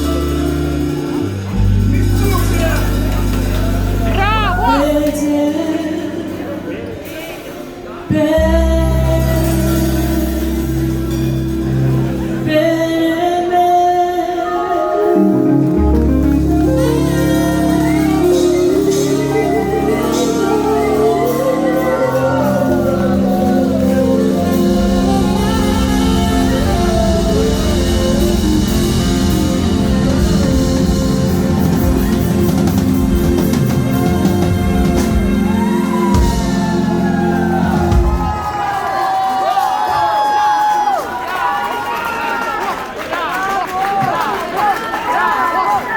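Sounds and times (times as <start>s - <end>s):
person singing: 0.0s - 7.0s, 7.9s - 38.6s
live band music: 0.0s - 41.2s.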